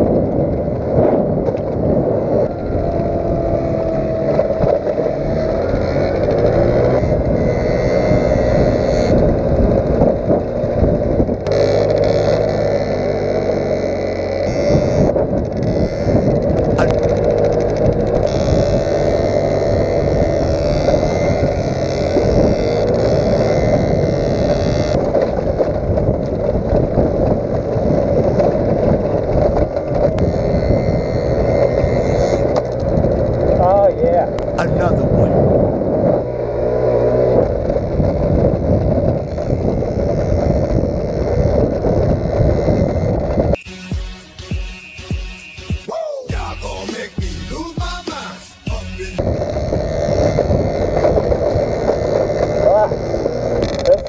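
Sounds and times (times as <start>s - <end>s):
rattling from bumpy ride: 0.0s - 43.6s
moped engine running: 0.0s - 54.0s
wind noise on microphone: 0.0s - 54.0s.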